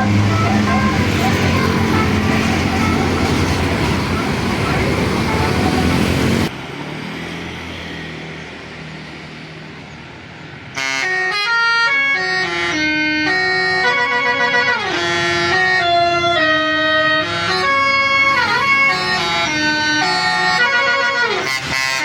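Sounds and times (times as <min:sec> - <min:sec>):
multi-tone air horn melody: 0:00.0 - 0:06.5, 0:10.8 - 0:22.0
engine and traffic noise: 0:00.0 - 0:22.0.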